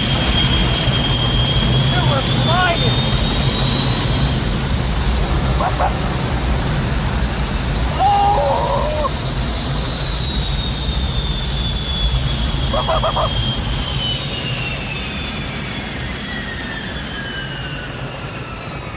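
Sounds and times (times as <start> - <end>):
jet engine turbine whine: 0.0 - 18.9.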